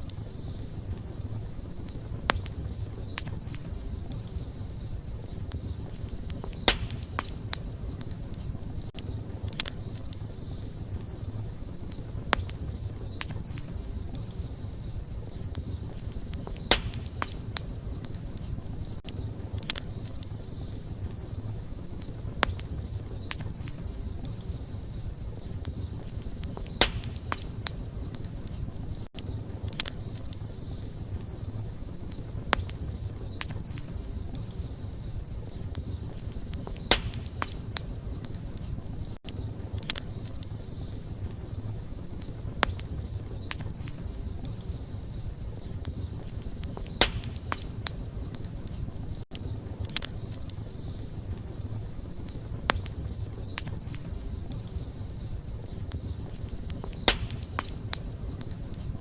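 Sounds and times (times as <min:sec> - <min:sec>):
campfire flames rumbling: 0:00.0 - 0:59.0
fire crackling and popping: 0:00.0 - 0:59.0.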